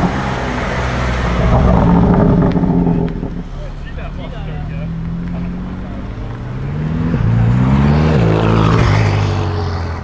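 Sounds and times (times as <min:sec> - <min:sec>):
car accelerating past: 0:00.0 - 0:10.0.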